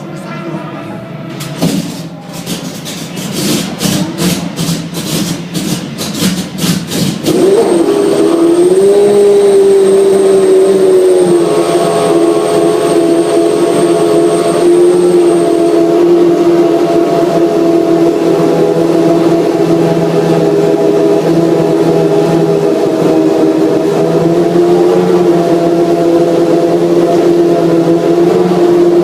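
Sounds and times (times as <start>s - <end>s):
racing engine starting and idling: 1.3s - 29.0s.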